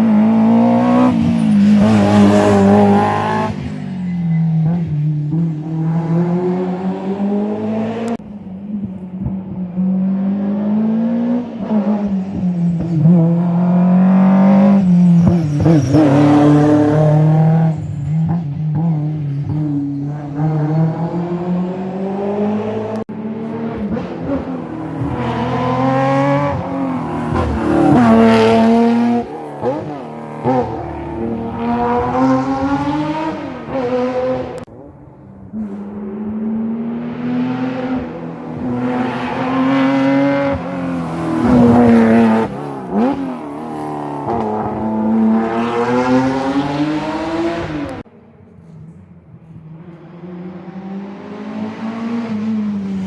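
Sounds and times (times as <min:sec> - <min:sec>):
rally car engine at full throttle: 0:00.0 - 0:53.0.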